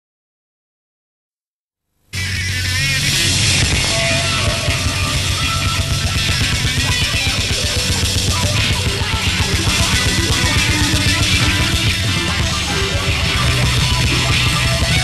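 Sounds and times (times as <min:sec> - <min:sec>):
loud band music fast beat: 0:02.2 - 0:15.0.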